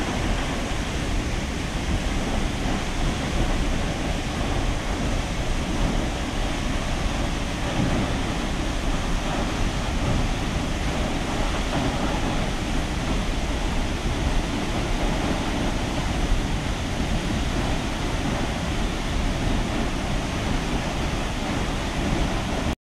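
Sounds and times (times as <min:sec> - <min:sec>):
waterfall rushing: 0:00.0 - 0:22.8.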